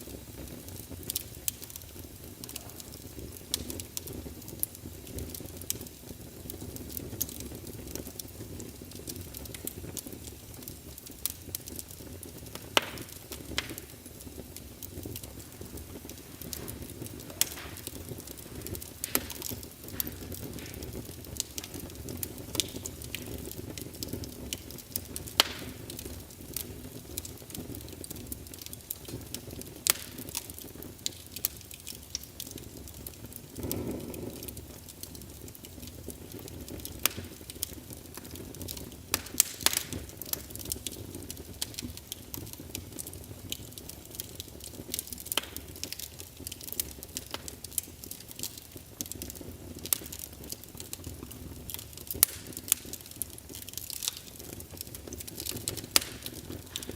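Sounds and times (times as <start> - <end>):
low rumble of flames: 0.0 - 56.9
low whoosh of fire: 0.0 - 56.9
wood fire crackling and popping: 0.0 - 56.9.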